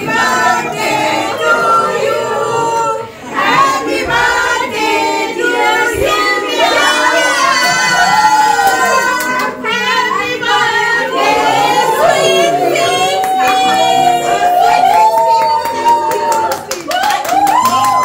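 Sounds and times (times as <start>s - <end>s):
group of voices singing: 0.0s - 16.7s.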